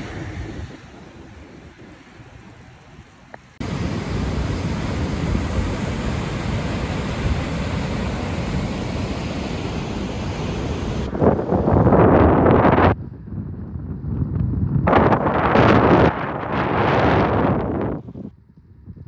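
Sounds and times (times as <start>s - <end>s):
sea rushing: 0.0s - 13.0s, 14.9s - 18.1s
wind: 0.0s - 19.0s.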